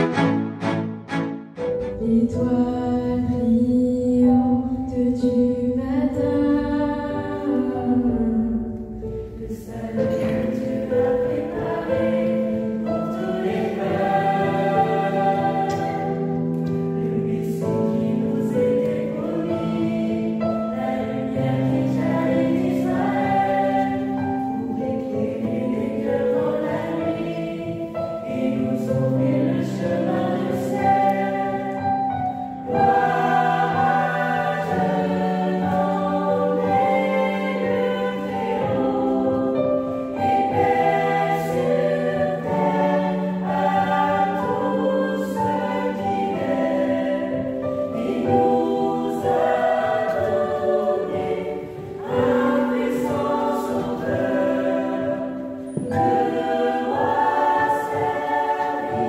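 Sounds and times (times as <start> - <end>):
mixed choir singing a hymn: 0.0 - 59.0.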